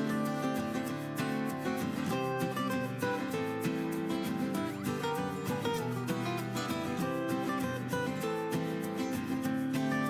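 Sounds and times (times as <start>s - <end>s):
strummed acoustic guitar music: 0.0s - 10.0s.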